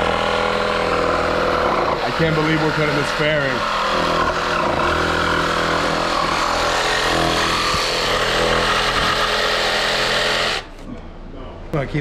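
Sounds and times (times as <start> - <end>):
cordless power tool cutting plastic: 0.0 - 10.8.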